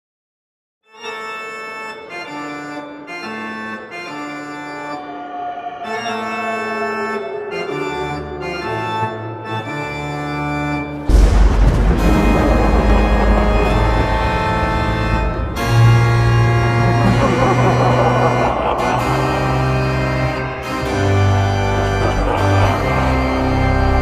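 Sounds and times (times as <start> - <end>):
organ chords: 0.9 - 24.0.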